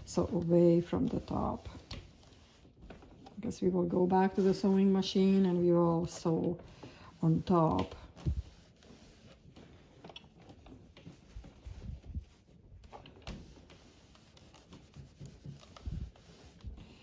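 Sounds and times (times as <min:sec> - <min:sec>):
fabric rubbing and rustling: 0:00.0 - 0:17.0.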